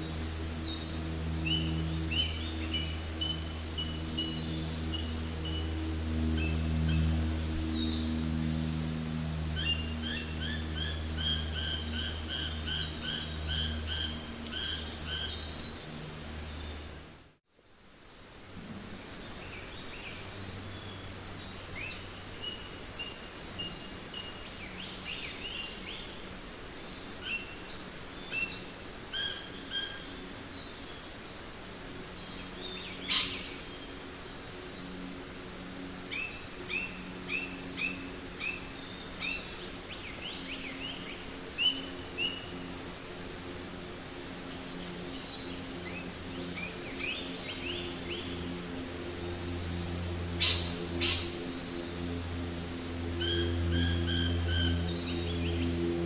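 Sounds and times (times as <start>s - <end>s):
birds chirping: 0.0s - 17.3s, 18.4s - 56.0s
low steady hum: 0.0s - 56.0s.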